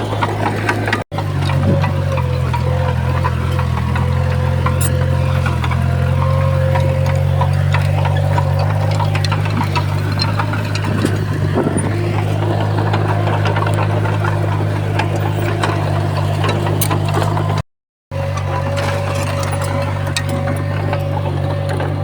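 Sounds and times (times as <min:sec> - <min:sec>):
metal clanks and rattles: 0:00.0 - 0:17.6
bulldozer diesel engine running: 0:00.0 - 0:22.0.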